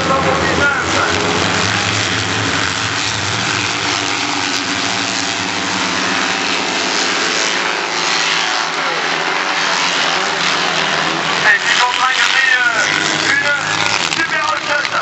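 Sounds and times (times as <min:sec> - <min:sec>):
racing buggy engines: 0:00.0 - 0:15.0.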